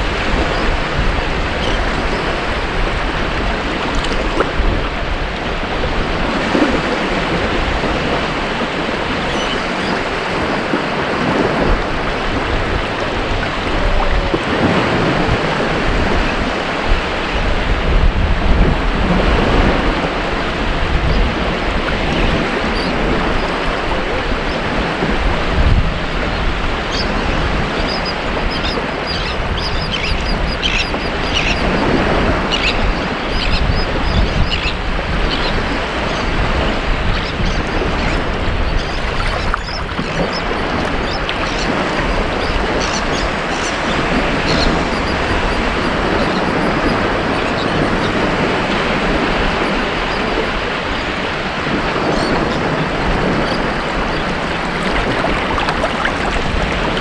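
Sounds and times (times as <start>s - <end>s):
ocean waves washing up beach: 0.0s - 30.0s, 37.8s - 57.0s.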